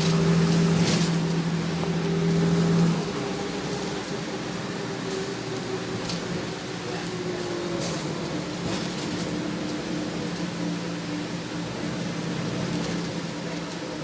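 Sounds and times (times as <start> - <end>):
bus engine running: 0.0 - 14.0
road noise: 0.0 - 14.0.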